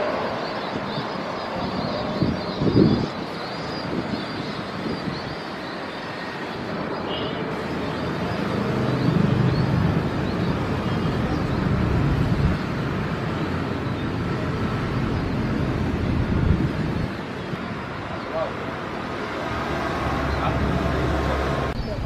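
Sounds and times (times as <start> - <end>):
airliner engines rumbling: 0.0 - 22.0.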